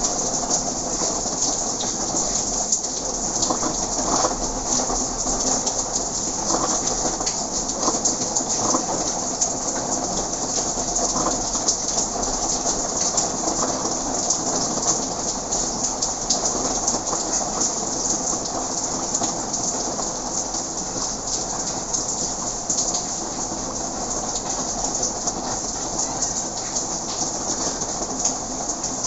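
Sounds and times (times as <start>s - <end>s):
light rain pattering: 0.0s - 29.0s.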